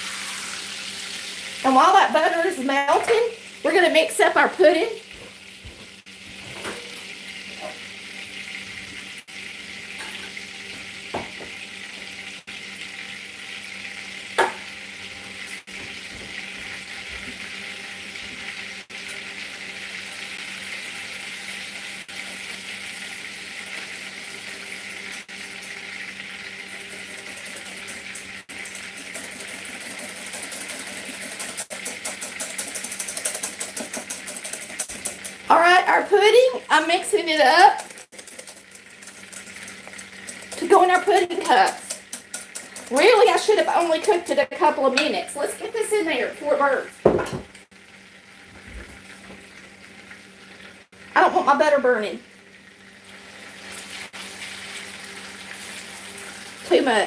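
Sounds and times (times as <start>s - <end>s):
butter sizzling in a skillet: 0.0s - 57.0s.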